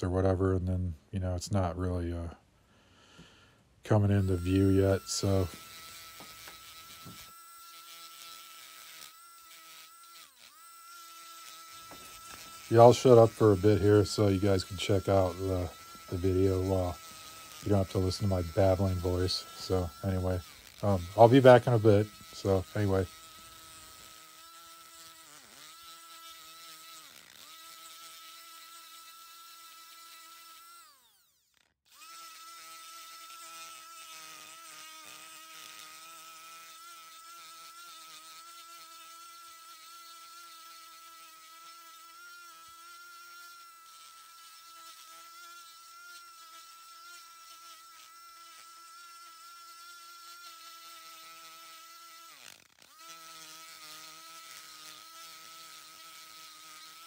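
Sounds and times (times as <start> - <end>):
rotary tool grinding wood: 4.0 - 57.0.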